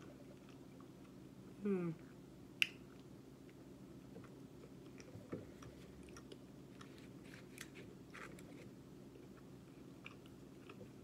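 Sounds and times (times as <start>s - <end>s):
chewing food: 0.0s - 1.2s, 2.9s - 11.0s.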